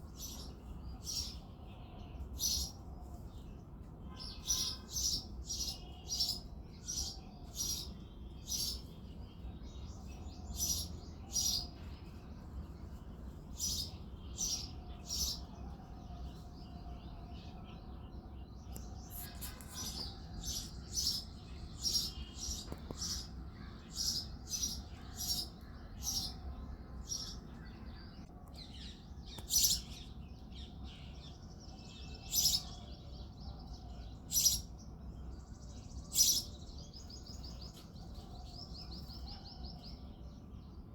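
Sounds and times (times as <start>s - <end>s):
sparrow chirping: 0.0s - 3.3s, 4.1s - 40.4s
steady low background hum: 0.0s - 40.9s.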